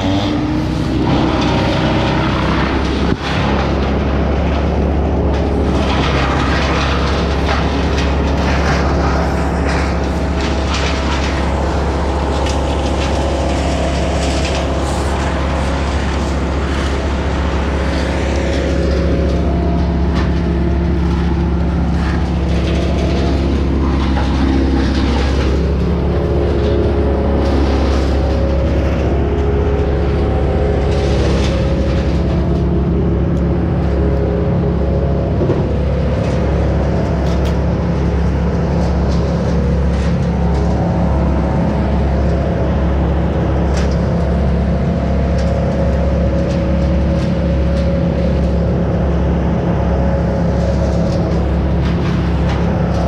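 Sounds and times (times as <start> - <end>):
tree-work machinery engine running: 0.0 - 53.0.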